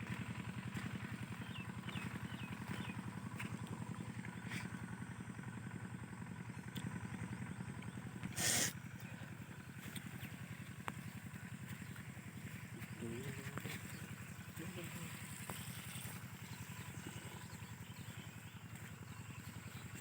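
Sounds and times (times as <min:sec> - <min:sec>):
diesel engine puttering: 0:00.0 - 0:20.0.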